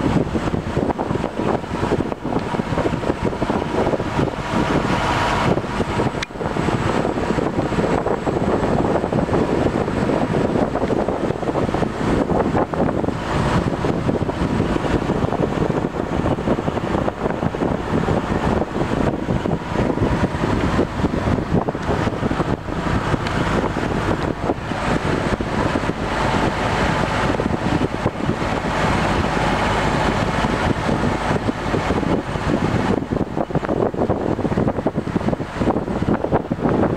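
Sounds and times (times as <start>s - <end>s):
boat engine running: 0.0s - 36.9s
wind noise on microphone: 0.0s - 36.9s.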